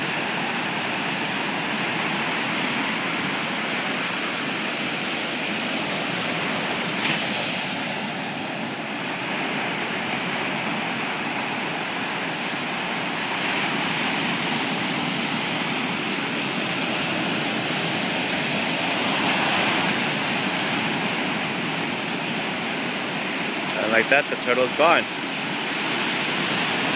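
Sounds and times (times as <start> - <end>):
ocean waves breaking on beach: 0.0 - 26.9.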